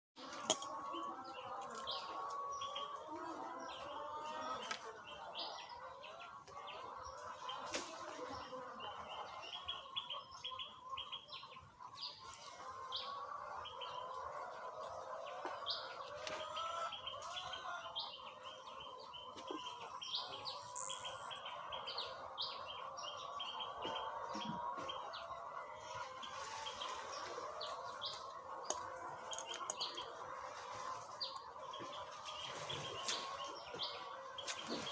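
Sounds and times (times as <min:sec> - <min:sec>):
birds chirping: 0:00.2 - 0:34.9.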